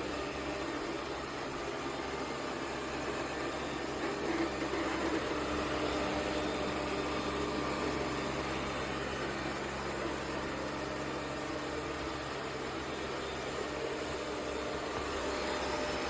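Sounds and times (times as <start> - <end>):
robot vacuum base station whirring: 0.0 - 16.0.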